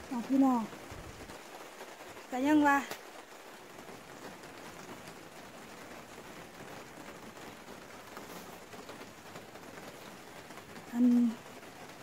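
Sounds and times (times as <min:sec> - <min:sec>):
rain on plastic panels: 0:00.0 - 0:12.0.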